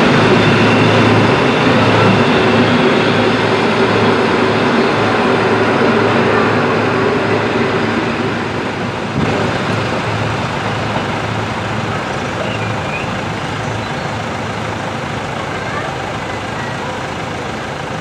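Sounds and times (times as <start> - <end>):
diesel train engine and rolling: 0.0 - 18.0
idling road vehicle engines: 0.0 - 18.0.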